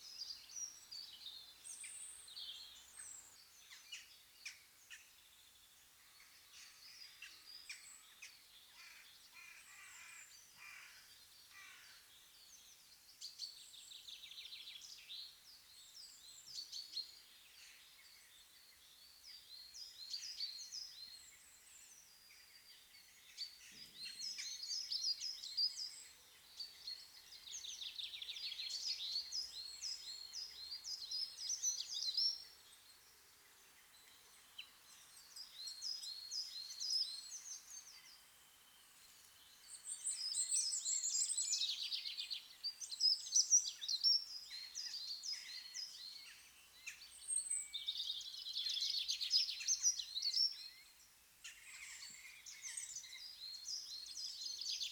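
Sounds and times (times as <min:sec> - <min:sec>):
small songbirds singing: 0:00.0 - 0:54.9.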